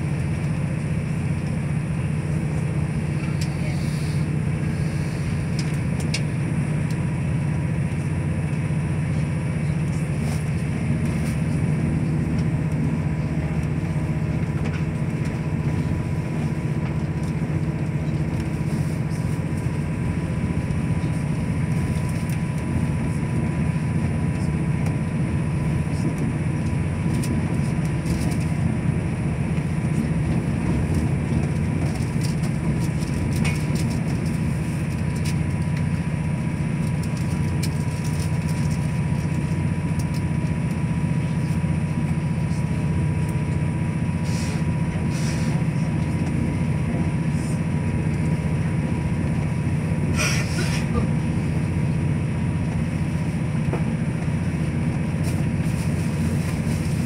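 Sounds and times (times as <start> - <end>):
train interior hum: 0.0 - 57.0
train wheels rumbling on track: 0.0 - 57.0.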